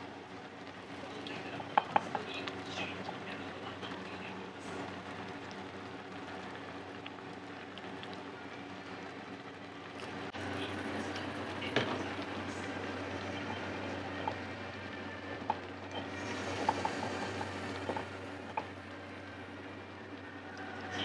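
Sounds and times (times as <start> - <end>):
broth bubbling in a pan: 0.0 - 21.0
kitchen hum: 0.0 - 21.0.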